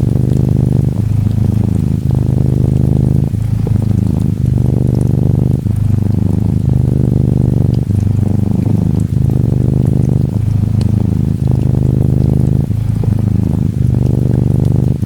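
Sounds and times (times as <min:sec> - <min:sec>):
cat purring: 0:00.0 - 0:15.0
rain pattering: 0:00.0 - 0:15.0.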